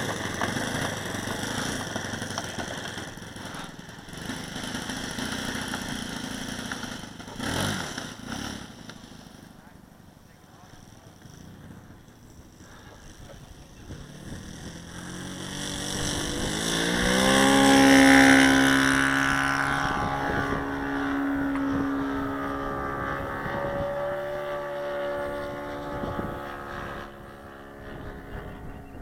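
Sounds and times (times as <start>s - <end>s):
model airplane engine in flight: 0.0s - 29.0s.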